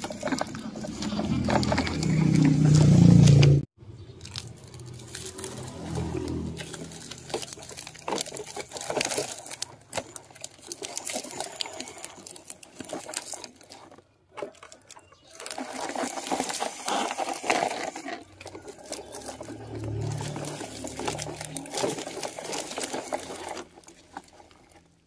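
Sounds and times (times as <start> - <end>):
toy truck wheels crackling: 0.0 - 25.0.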